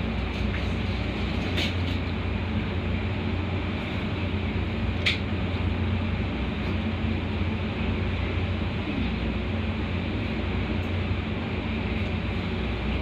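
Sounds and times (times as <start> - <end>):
train car ride rumble: 0.0 - 13.0.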